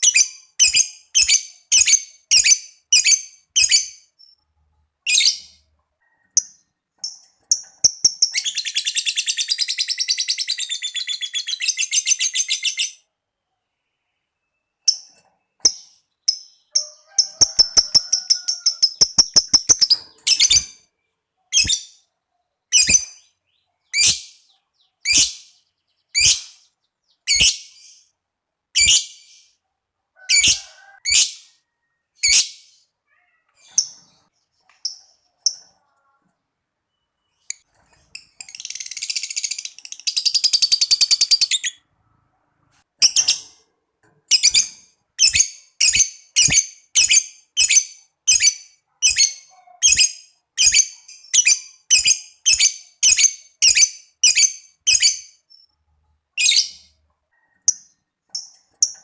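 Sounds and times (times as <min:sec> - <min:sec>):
lovebird chirping and trilling: 0:00.0 - 0:05.7, 0:06.3 - 0:13.1, 0:14.4 - 0:28.2, 0:28.8 - 0:29.6, 0:32.2 - 0:36.0, 0:36.9 - 0:41.9, 0:43.0 - 0:43.6, 0:44.3 - 0:57.0.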